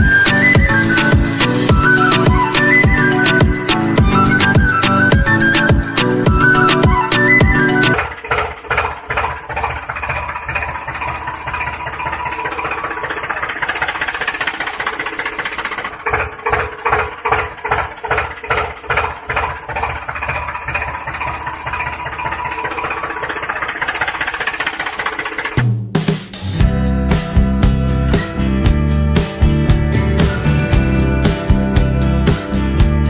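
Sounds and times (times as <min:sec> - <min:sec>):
tractor engine chugging: 0:00.0 - 0:25.7, 0:26.5 - 0:33.0.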